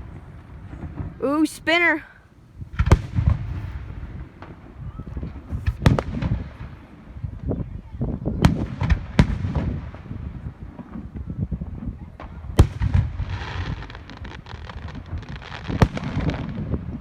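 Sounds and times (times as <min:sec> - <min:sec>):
fireworks bangs: 0:00.0 - 0:07.5, 0:08.4 - 0:17.0
fireworks crackles: 0:00.0 - 0:07.5, 0:08.4 - 0:17.0.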